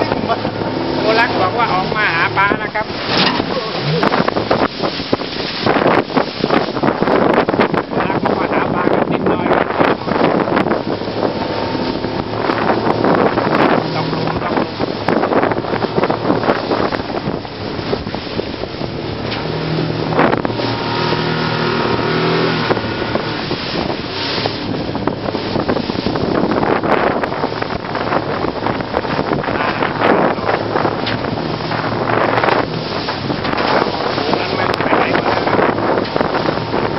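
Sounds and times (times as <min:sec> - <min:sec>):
motorboat engine drone: 0:00.0 - 0:36.9
waves slapping against hull: 0:00.0 - 0:36.9
wind buffeting microphone: 0:00.0 - 0:36.9.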